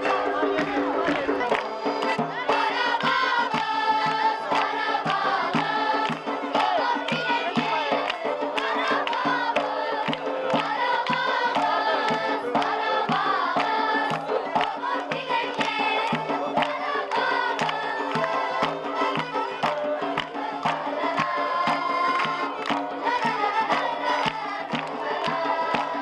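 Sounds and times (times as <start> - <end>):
children singing: 0.0 - 26.0
drum beat: 0.0 - 26.0
violins playing: 0.0 - 26.0.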